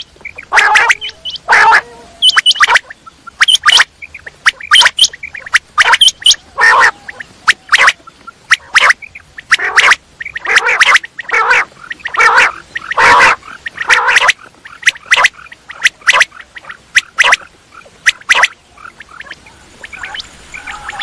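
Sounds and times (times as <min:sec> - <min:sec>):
harsh rasping bird calls: 0:00.0 - 0:21.0
quail clicking calls: 0:00.0 - 0:21.0.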